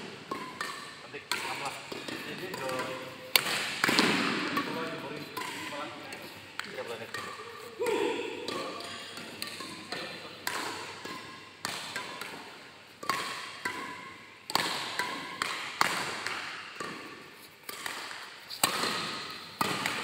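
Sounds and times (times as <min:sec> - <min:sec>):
ball hits echoing in a hall: 0:00.0 - 0:20.0.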